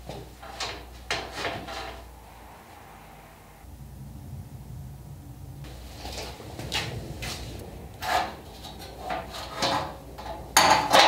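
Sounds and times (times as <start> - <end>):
sheet metal scraping: 0.0 - 3.6, 5.7 - 11.0.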